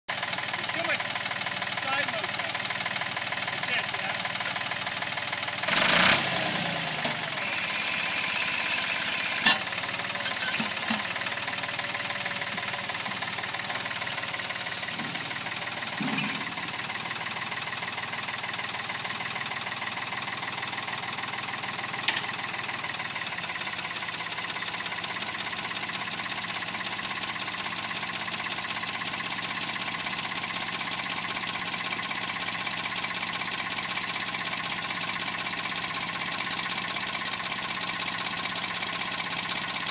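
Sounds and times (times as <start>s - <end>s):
tractor engine running: 0.1s - 39.9s.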